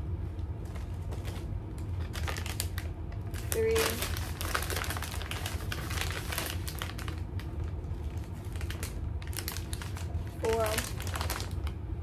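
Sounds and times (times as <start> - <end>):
plastic pouches crinkling: 0.6 - 11.8.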